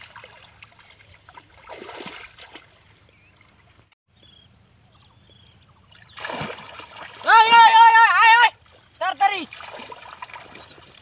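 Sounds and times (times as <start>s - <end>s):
muddy water sloshing: 0.0s - 3.9s, 5.7s - 11.0s
soft water splashes: 0.0s - 3.9s, 5.7s - 11.0s.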